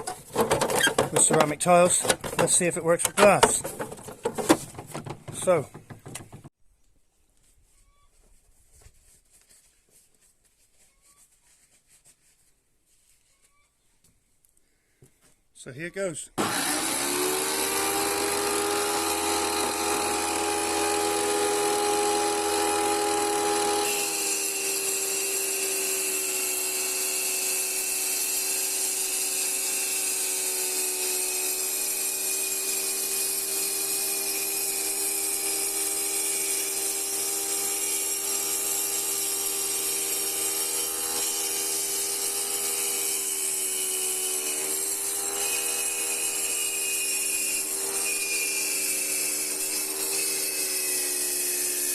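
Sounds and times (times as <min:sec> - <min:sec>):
tile cutter grinding glass: 0:00.0 - 0:06.5, 0:16.4 - 0:51.9.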